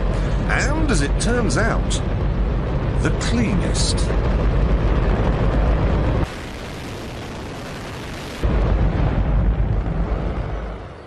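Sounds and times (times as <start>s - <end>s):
rocket engine roaring: 0.0s - 11.0s.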